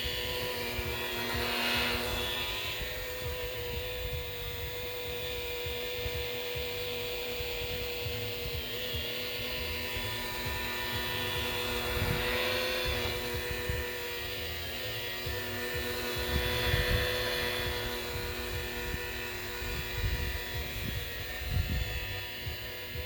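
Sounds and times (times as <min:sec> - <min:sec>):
electric polisher buffing: 0:00.0 - 0:23.0.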